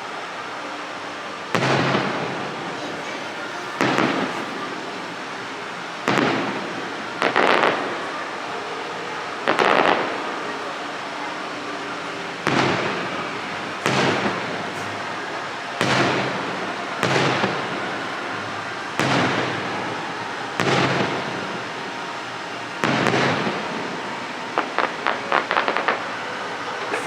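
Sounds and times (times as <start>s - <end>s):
fireworks booming: 1.5s - 10.8s, 11.5s - 27.0s.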